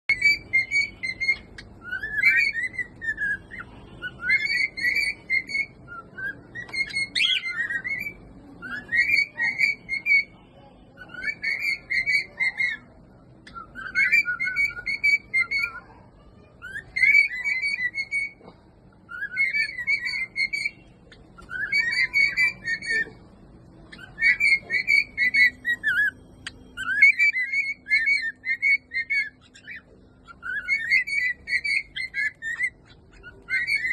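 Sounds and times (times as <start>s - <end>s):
cockatiel whistling a tune: 0.0s - 16.0s, 16.6s - 18.4s, 19.1s - 23.1s, 23.9s - 33.9s.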